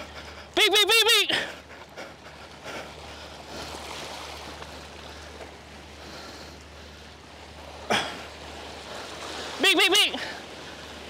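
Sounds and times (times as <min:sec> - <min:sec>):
sea waves washing around rocks: 0:00.0 - 0:11.0.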